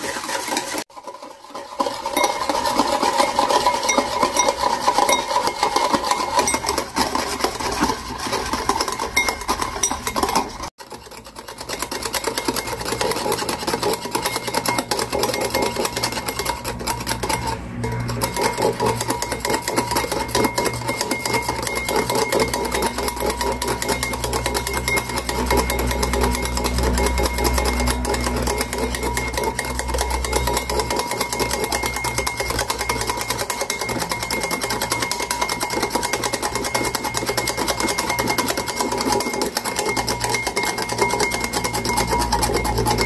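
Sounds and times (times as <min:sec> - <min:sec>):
fork clattering against glass bowl: 0:00.0 - 0:43.0.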